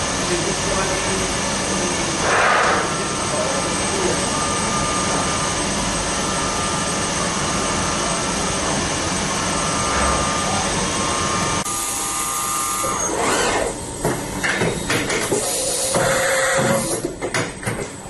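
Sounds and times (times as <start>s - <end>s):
machine hum and whine: 0.0s - 18.0s.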